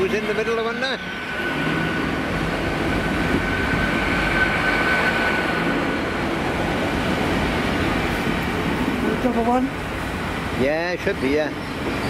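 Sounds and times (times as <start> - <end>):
thin high whine: 0.0 - 9.9
train coaches rumbling: 0.0 - 12.0.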